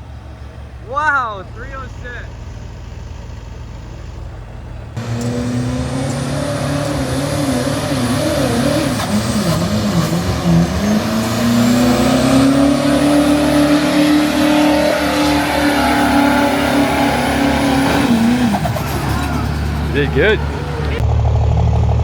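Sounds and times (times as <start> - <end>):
truck engine at high revs: 0.0 - 22.0.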